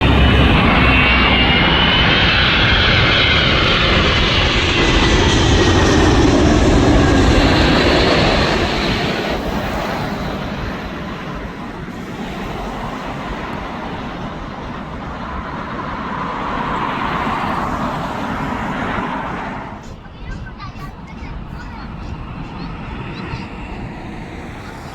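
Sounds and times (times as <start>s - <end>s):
jet airliner passing overhead: 0.0s - 24.9s.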